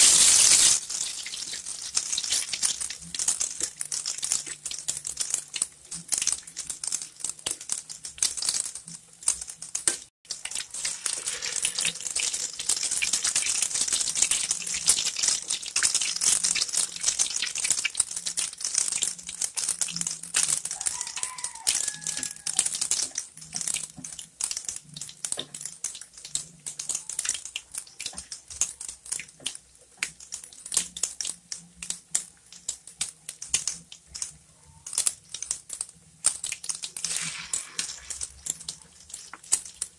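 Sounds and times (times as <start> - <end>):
patties deep-frying in oil: 0.0 - 39.9.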